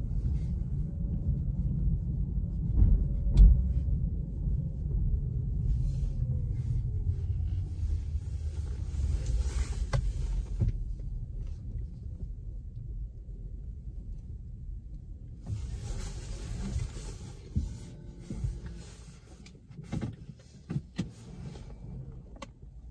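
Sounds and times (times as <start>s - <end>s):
car rolling slowly: 0.0s - 22.9s.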